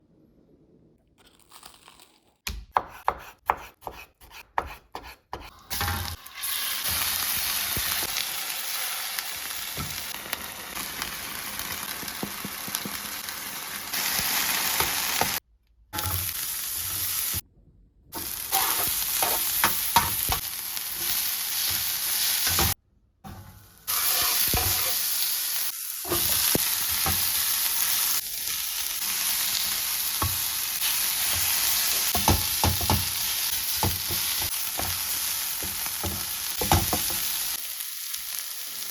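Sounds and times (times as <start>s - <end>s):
food sizzling in a frying pan: 5.6s - 15.4s, 16.0s - 17.4s, 18.2s - 22.8s, 23.5s - 38.9s.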